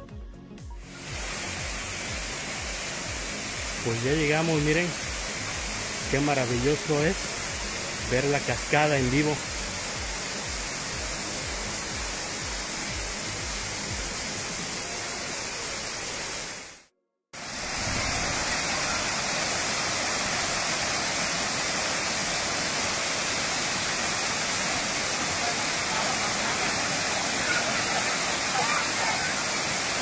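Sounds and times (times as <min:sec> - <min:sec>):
waterfall rushing: 0:00.8 - 0:30.0.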